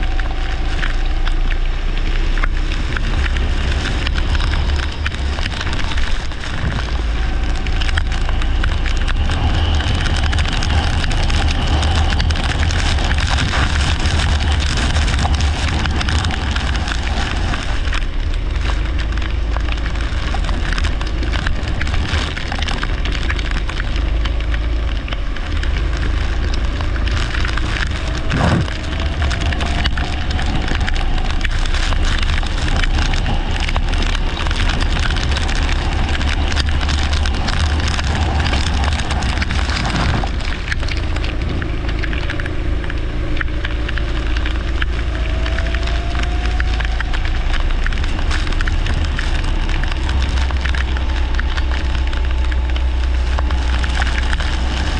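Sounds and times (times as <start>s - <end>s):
wind rumbling on microphone: 0.0s - 54.9s.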